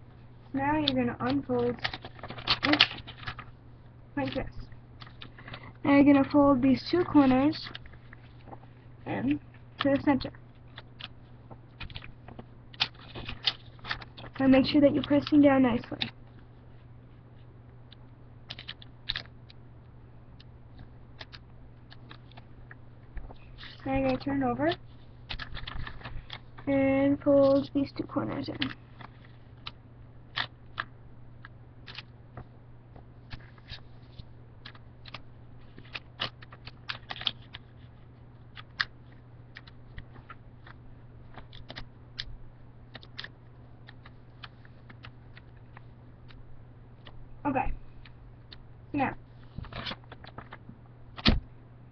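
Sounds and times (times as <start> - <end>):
steady low hum: 0.0 - 51.9
paper crinkling: 0.8 - 3.6, 4.2 - 19.6, 20.7 - 32.5, 33.2 - 42.3, 42.9 - 46.4, 49.3 - 51.4.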